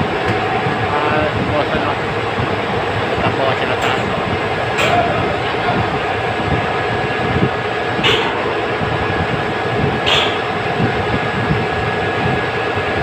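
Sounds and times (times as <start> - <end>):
loud machinery noise: 0.0 - 13.0.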